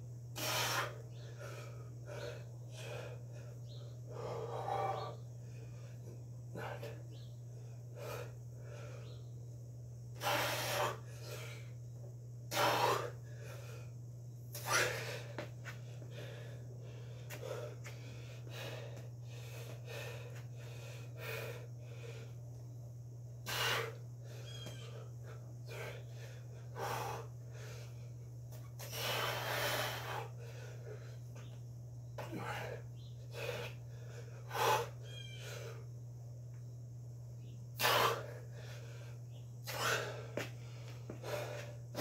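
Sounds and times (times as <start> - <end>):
low hum: 0.0 - 42.0
man breathing hard: 0.3 - 9.3, 10.1 - 11.8, 12.4 - 22.6, 23.4 - 31.6, 32.2 - 36.0, 37.7 - 42.0.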